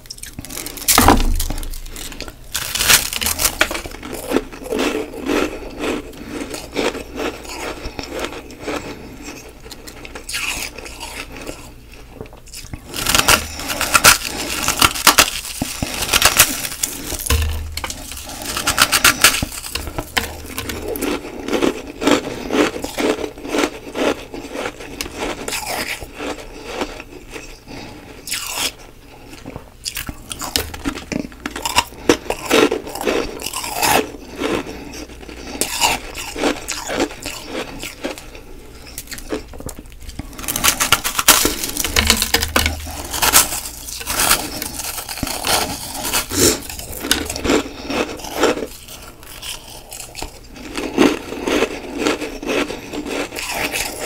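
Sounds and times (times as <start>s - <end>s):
crunching and chewing ice: 0.0s - 54.0s.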